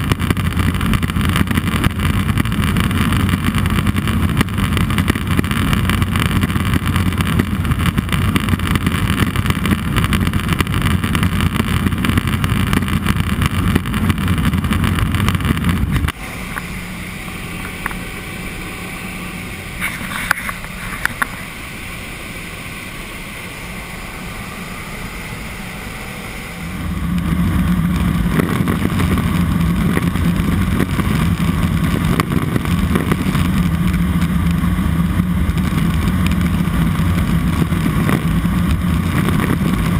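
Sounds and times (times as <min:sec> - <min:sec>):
turbine engine and propeller drone: 0:00.0 - 0:39.9.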